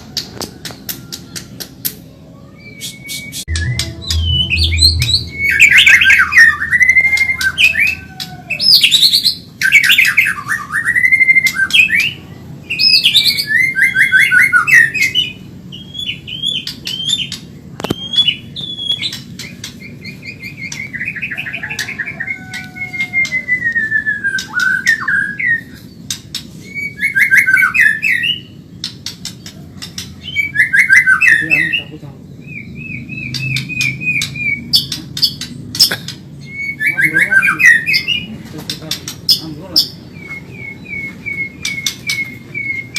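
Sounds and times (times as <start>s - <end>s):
songbird singing whistled phrases: 2.4s - 8.0s, 8.6s - 25.9s, 26.6s - 28.6s, 30.2s - 35.0s, 36.4s - 38.3s, 39.3s - 42.9s.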